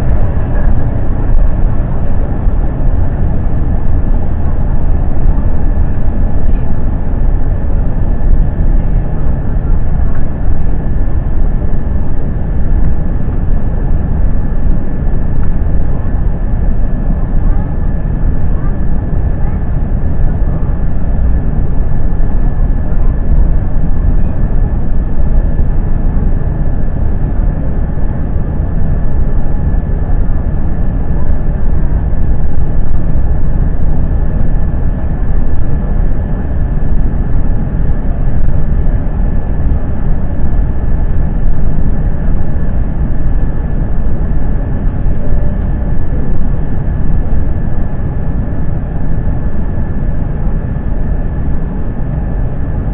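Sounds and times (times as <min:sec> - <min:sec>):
faint high whine: 0:00.0 - 0:52.9
jet engines and airflow rumbling: 0:00.0 - 0:52.9.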